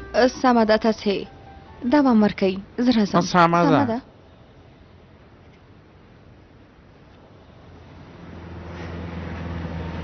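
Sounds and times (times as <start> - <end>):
faint background hiss: 0.0 - 8.6.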